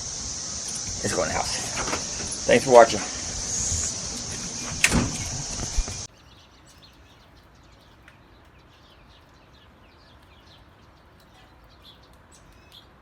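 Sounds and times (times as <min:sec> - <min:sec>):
faint birds chirping: 0:00.0 - 0:12.9.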